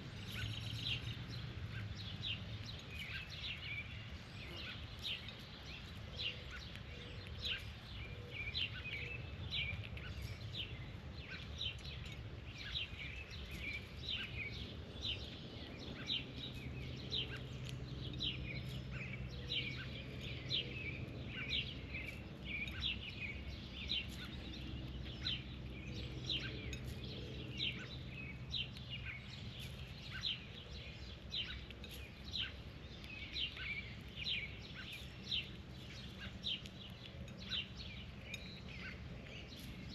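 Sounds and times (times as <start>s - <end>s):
bird chirping: 0.0s - 39.9s
low background rumble: 0.0s - 39.9s.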